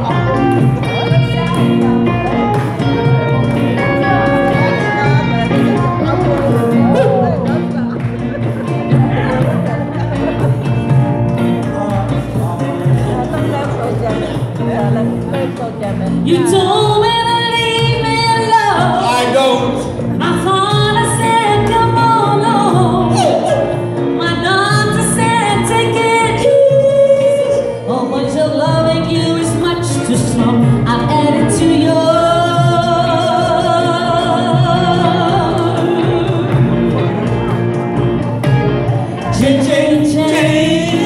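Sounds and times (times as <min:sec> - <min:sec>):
live band music: 0:00.0 - 0:41.0.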